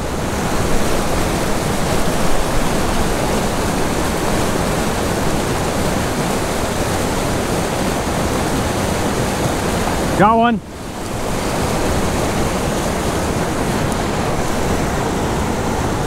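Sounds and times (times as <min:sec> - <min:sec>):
river rushing over boulders: 0:00.0 - 0:16.0.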